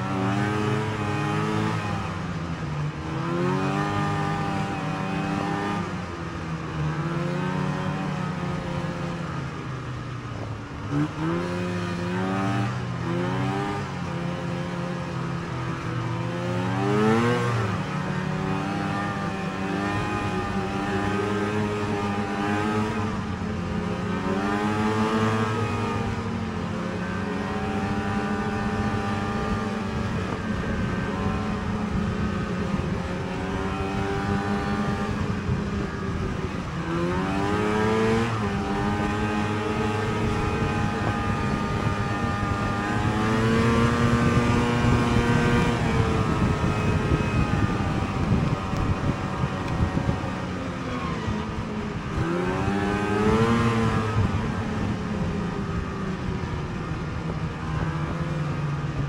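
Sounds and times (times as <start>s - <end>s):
snowmobile engine revving: 0.0s - 2.3s, 2.9s - 5.9s, 6.6s - 9.4s, 10.8s - 59.0s.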